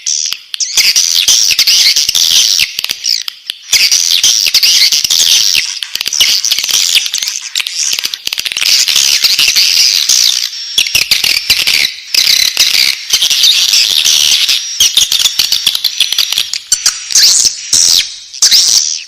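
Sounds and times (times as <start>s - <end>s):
sharp clicks: 0.0s - 18.8s
chicks twittering: 0.0s - 19.0s.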